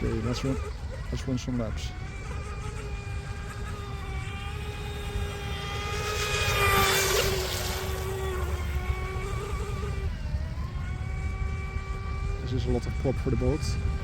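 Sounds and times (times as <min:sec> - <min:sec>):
electric boat motor whining: 0:00.0 - 0:14.0.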